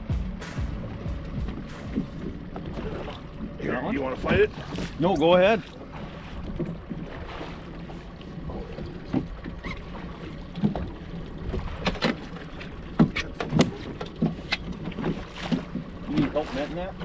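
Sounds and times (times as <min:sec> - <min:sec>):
knocks and clicks on boat: 0:00.0 - 0:17.0
outboard motor running: 0:00.0 - 0:17.0.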